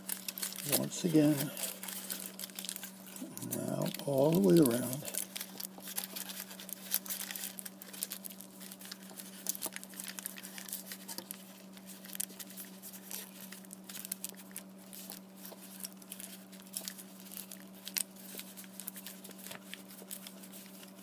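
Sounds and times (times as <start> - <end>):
foil crinkling: 0.0 - 21.0
steady low hum: 0.0 - 21.0.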